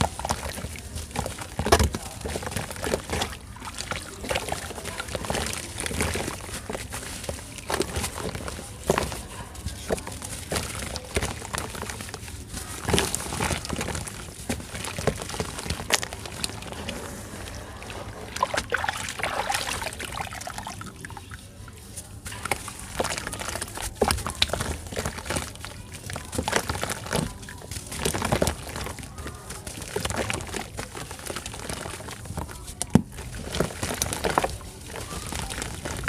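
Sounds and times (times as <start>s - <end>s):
packed sand crumbling and crunching: 0.0s - 36.0s.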